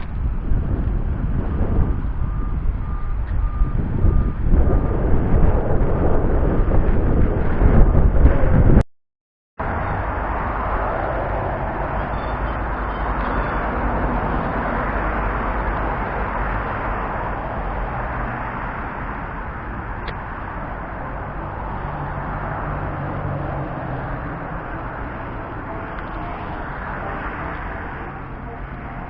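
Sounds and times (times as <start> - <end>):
road traffic rumble: 0.0 - 8.8, 9.6 - 29.0.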